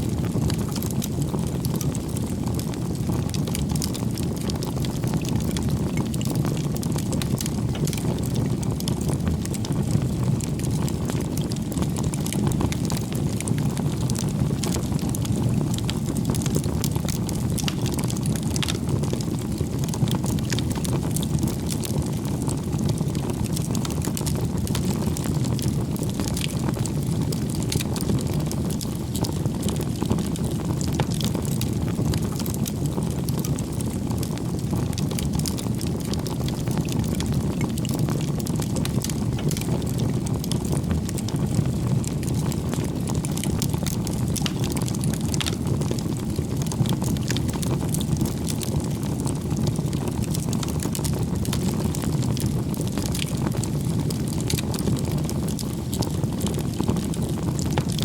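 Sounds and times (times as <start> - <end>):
campfire flames roaring: 0.0 - 58.0
firewood crackling and popping: 0.0 - 58.0.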